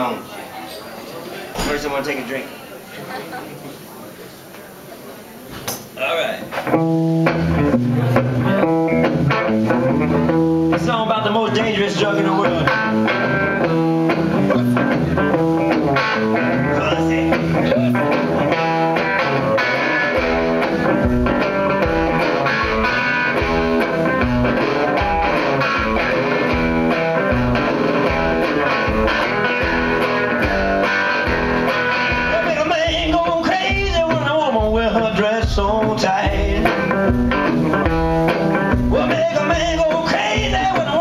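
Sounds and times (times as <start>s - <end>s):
electric guitar blues: 5.8s - 41.0s.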